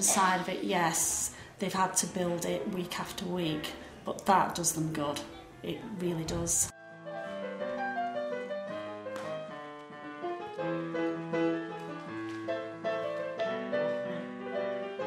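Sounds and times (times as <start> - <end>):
piano music: 2.0 - 15.0.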